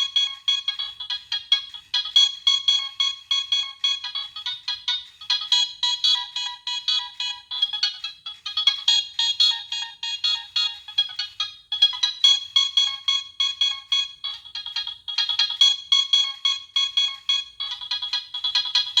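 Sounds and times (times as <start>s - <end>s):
cell phone ringtone melody: 0.0s - 19.0s.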